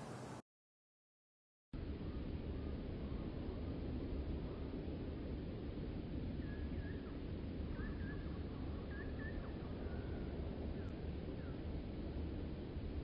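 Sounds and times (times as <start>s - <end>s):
low outdoor rumble: 1.8s - 13.0s.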